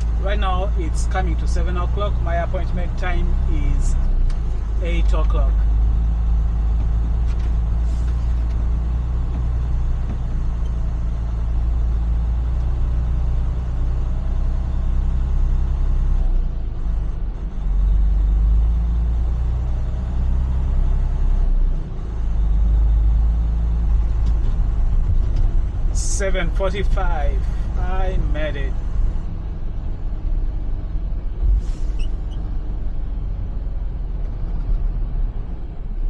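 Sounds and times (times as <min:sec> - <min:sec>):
truck diesel engine rumbling: 0:00.0 - 0:36.0.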